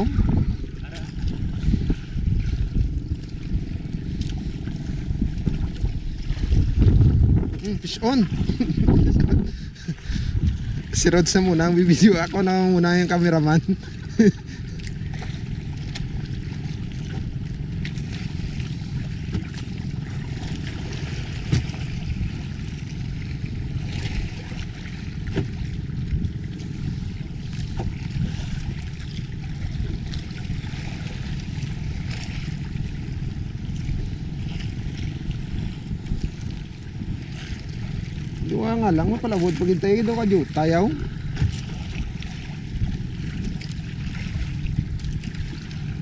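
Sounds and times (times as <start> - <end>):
waves slapping boat hull: 0.0 - 46.0
wind buffeting microphone: 0.0 - 46.0.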